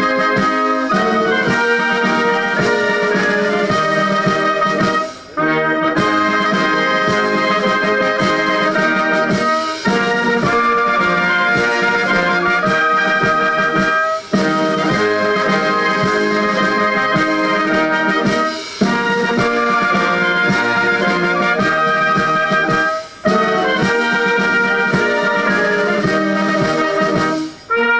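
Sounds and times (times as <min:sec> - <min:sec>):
wind band playing held notes: 0:00.0 - 0:27.9.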